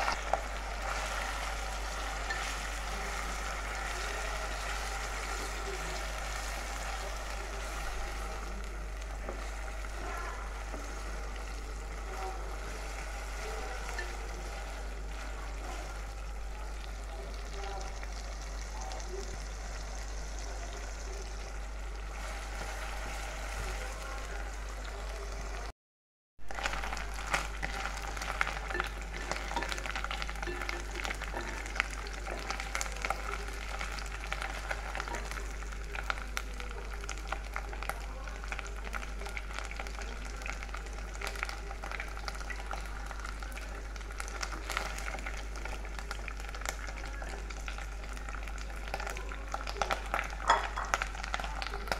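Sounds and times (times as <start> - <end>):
spatula stirring in pan: 0.0 - 25.6, 26.5 - 51.9
fish sizzling in hot oil: 0.0 - 25.7, 26.4 - 51.9.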